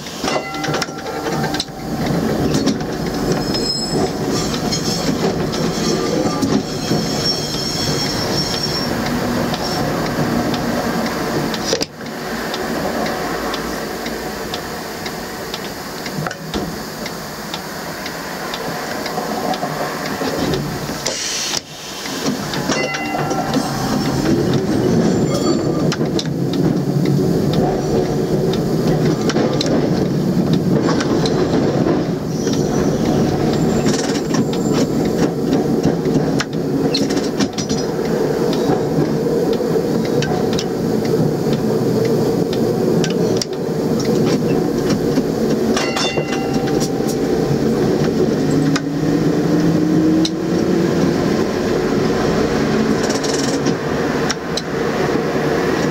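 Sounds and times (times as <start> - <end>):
tram wheels rumbling on rails: 0.0 - 55.9.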